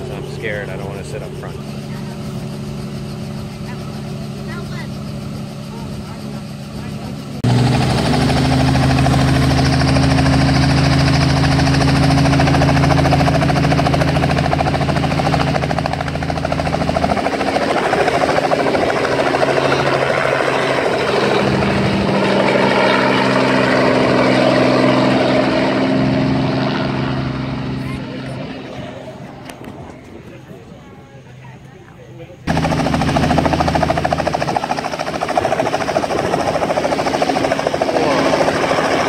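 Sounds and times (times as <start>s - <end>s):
helicopter rotor and engine drone: 0.0s - 39.0s.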